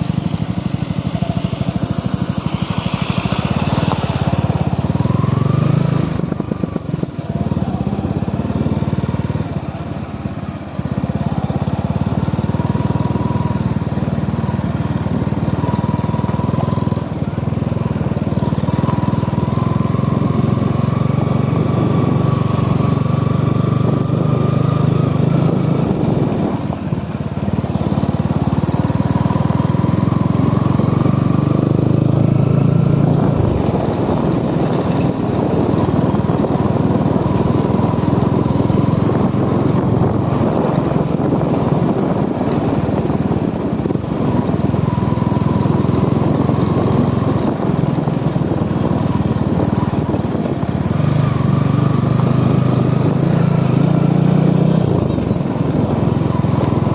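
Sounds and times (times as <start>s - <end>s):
motorcycle engine running: 0.0s - 56.9s
steady rushing noise: 0.0s - 56.9s.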